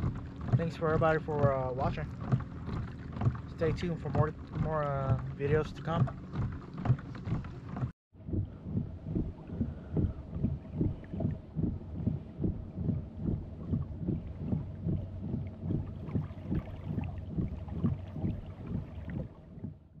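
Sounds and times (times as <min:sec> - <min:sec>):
hull slapping on waves: 0:00.0 - 0:19.9
steady motor hum: 0:00.0 - 0:20.0.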